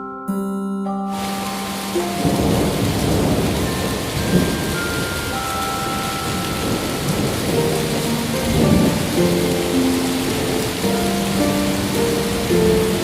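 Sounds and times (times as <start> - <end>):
soft sustained musical notes: 0.0 - 13.0
heavy rain: 1.1 - 13.0
thunder rumble: 1.2 - 13.0.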